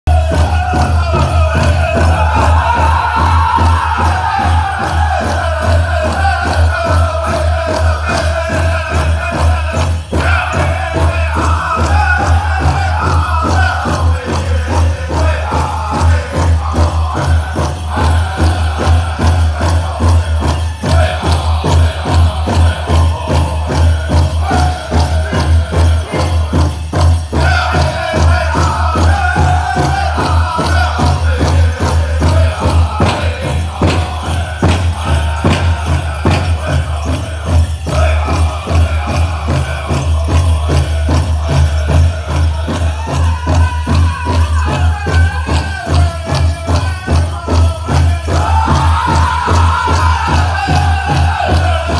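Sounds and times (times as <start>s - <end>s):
group chanting: 0.1s - 26.7s, 27.3s - 51.9s
bells jingling: 0.1s - 51.9s
steady drumbeat: 0.1s - 51.9s.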